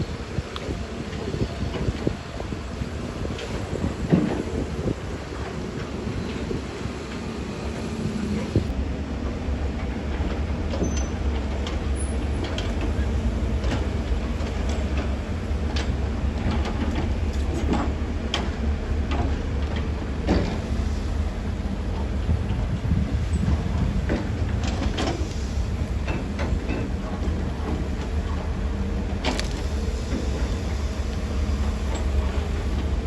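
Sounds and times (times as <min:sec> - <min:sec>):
heavy diesel machinery rumble: 0:00.0 - 0:33.0.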